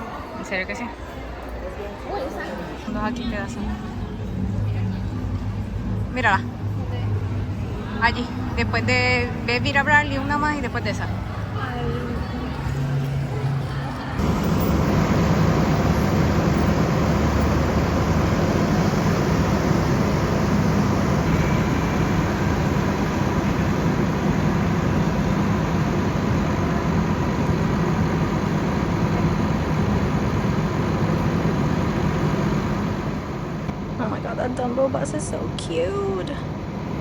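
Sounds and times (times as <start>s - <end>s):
bus engine droning: 2.9s - 37.0s.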